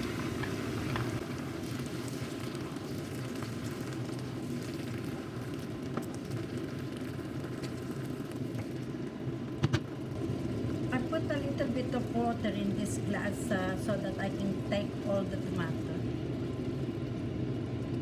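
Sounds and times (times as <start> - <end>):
tomatoes sizzling in hot oil: 0.0 - 18.0.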